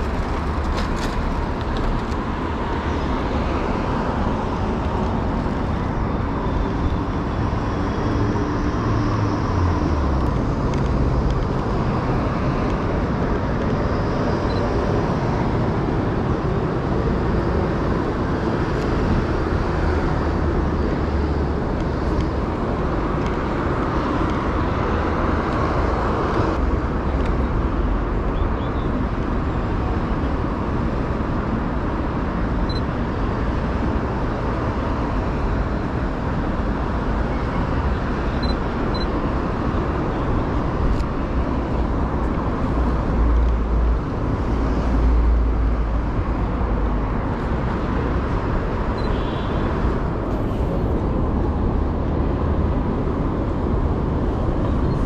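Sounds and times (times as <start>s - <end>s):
outdoor street noise: 0.0s - 55.0s.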